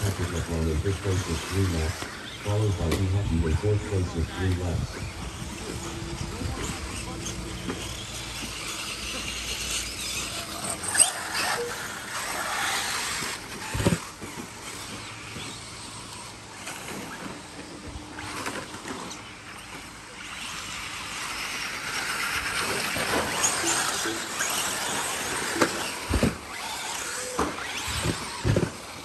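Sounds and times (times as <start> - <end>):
rc car motors whining: 0.0 - 29.0
tyres on dirt: 0.0 - 29.0.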